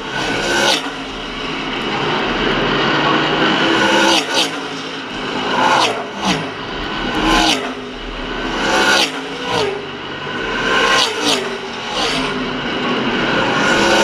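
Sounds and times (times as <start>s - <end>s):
stock cars racing past: 0.0s - 14.0s.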